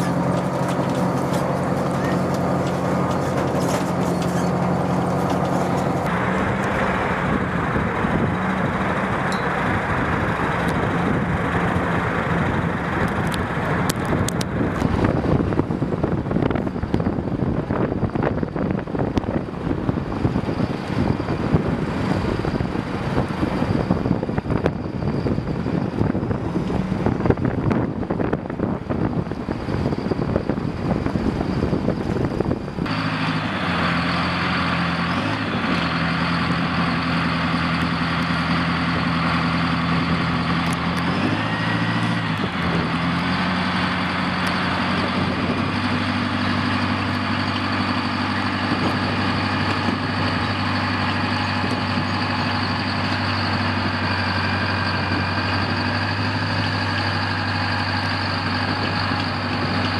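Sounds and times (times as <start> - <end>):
diesel engine running: 0.0 - 59.9
tracks clanking and rattling: 0.0 - 59.9.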